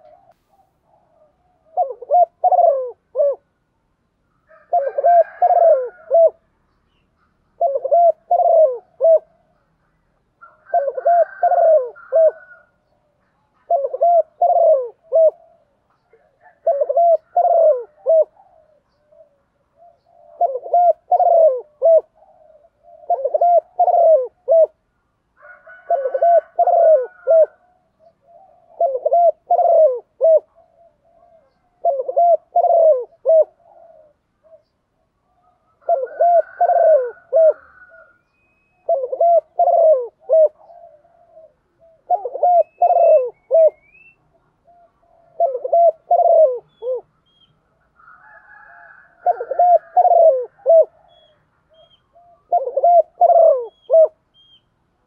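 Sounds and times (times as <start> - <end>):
dove cooing: 0.0 - 3.6, 4.4 - 6.5, 7.5 - 9.7, 10.4 - 24.8, 25.4 - 54.6.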